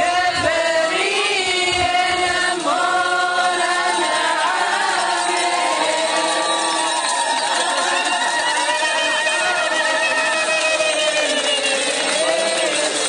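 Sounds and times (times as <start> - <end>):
group chanting a hymn: 0.0 - 13.0.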